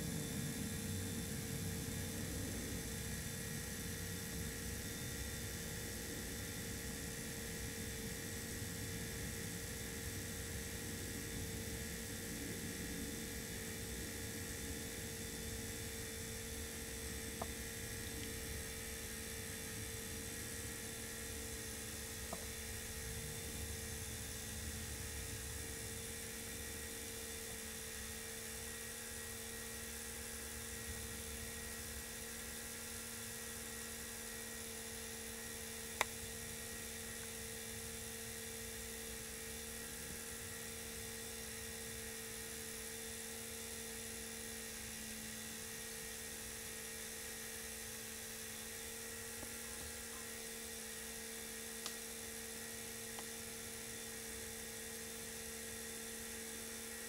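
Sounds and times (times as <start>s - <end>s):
steady electric hum: 0.0s - 57.0s.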